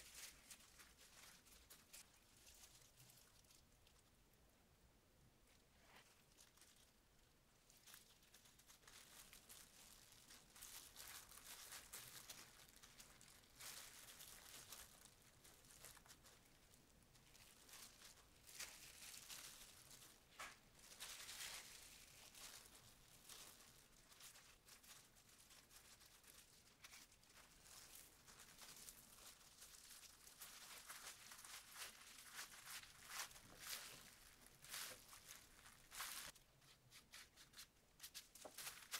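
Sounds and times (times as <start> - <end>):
plastic crinkling and rustling: 0.0 - 4.2, 5.4 - 38.9.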